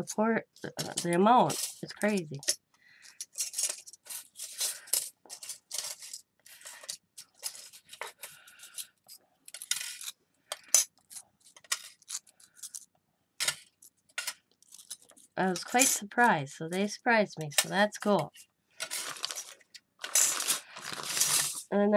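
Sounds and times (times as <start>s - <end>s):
metal pieces clinking and scraping: 0.6s - 16.0s, 18.8s - 21.7s.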